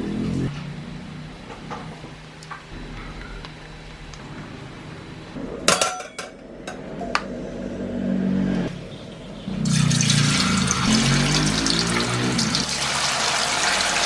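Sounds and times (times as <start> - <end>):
low steady hum: 0.0 - 11.7.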